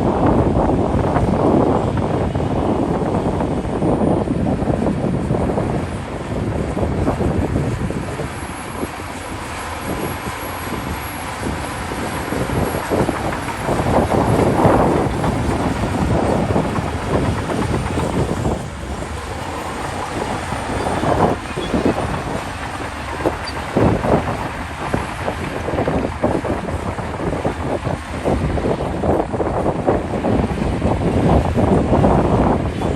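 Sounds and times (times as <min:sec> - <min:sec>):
steel tracks clattering: 0:00.1 - 0:32.9
bulldozer diesel engine: 0:02.7 - 0:29.4.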